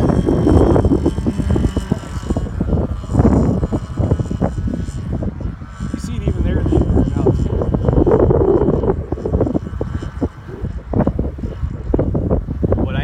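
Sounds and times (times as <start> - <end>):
distant model airplane engine drone: 0.0 - 13.0
wind buffeting microphone: 0.0 - 13.0.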